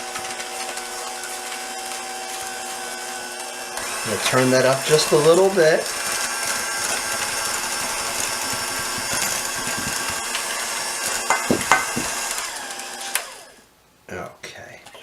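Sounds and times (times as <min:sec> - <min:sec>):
electric hand mixer whining: 0:00.0 - 0:13.6.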